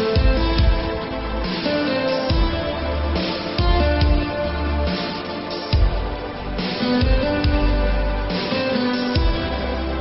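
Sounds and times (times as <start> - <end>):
music with heavy bass beat: 0.0 - 10.0.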